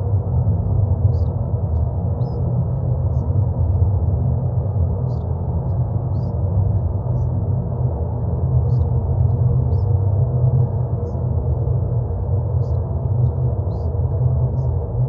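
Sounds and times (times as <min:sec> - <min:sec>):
deep droning noise: 0:00.0 - 0:15.0.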